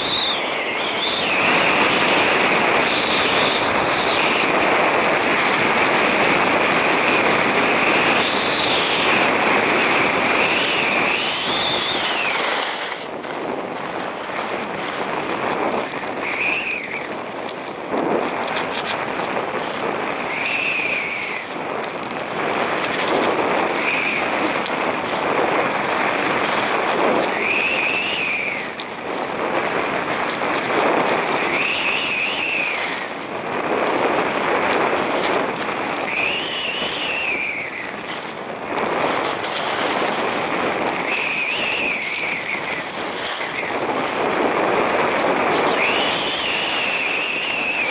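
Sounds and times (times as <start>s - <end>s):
ski squeal: 0.0s - 17.8s, 18.4s - 33.4s, 34.0s - 47.9s
skis scraping over hard snow: 0.0s - 47.9s.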